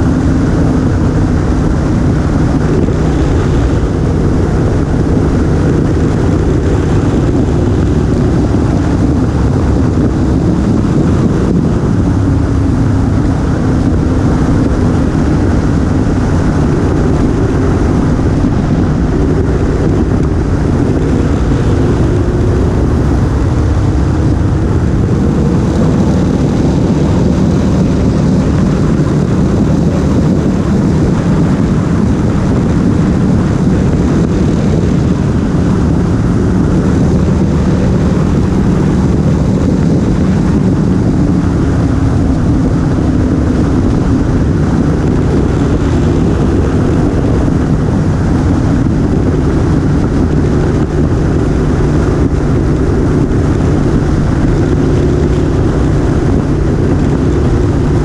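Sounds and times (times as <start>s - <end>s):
motorcycle engine running: 0.0s - 58.0s
wind on microphone: 0.0s - 58.0s.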